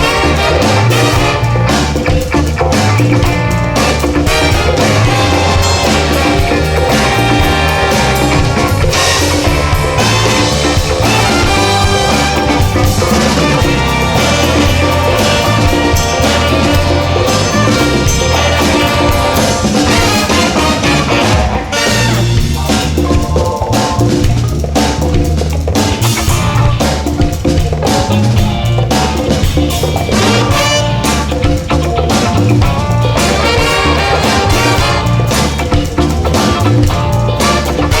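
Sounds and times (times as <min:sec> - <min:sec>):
bass line: 0:00.0 - 0:38.0
drum kit: 0:00.0 - 0:38.0
live funk band playing: 0:00.0 - 0:38.0.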